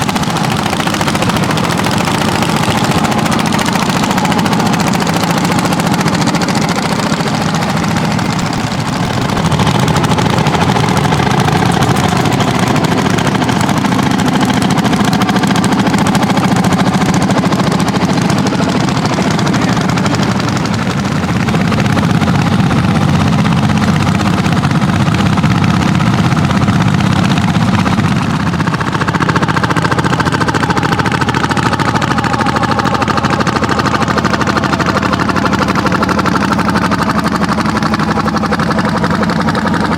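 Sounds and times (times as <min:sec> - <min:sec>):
higher engine note: 0:00.0 - 0:39.9
tractor engines running: 0:00.0 - 0:39.9.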